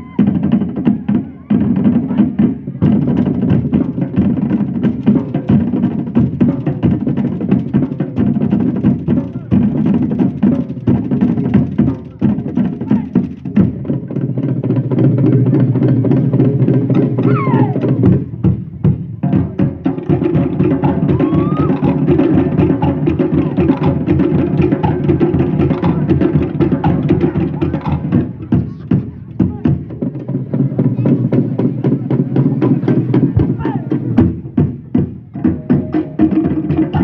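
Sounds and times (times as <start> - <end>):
beating on wooden slit drums: 0.0 - 37.0
deeper drum: 0.0 - 37.0.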